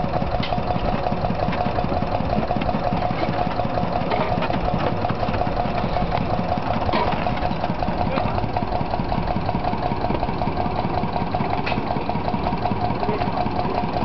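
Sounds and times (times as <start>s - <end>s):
concrete mixer running: 0.0s - 14.0s.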